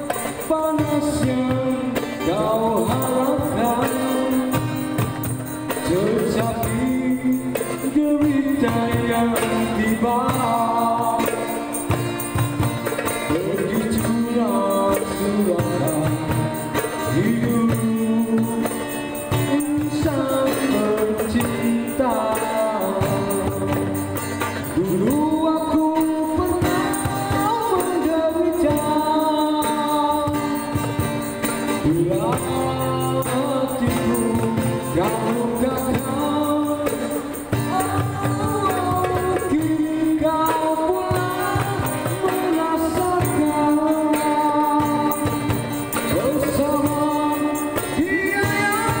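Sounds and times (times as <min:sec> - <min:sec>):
acoustic guitar: 0:00.0 - 0:49.0
cajon drumming: 0:00.0 - 0:49.0
man singing into microphone: 0:00.0 - 0:49.0.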